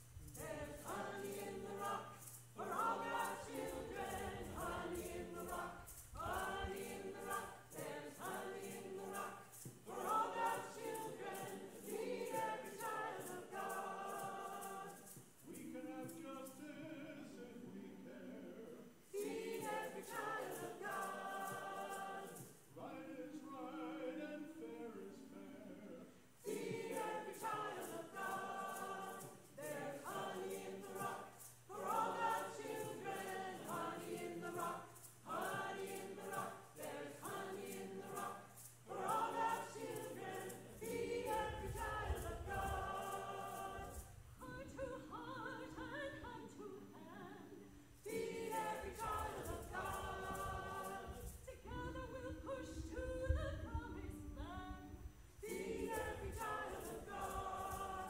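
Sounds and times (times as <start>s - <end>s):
group of voices singing: 0.0s - 58.0s.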